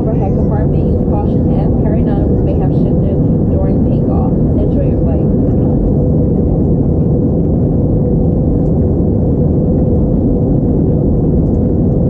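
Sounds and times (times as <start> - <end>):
airplane cabin rumble: 0.0 - 12.0
faint held hum: 0.0 - 12.0.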